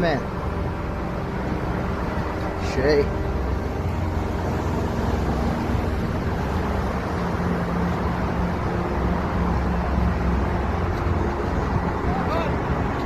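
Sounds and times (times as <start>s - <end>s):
constant road hiss: 0.0s - 13.0s
low engine hum: 0.0s - 13.0s.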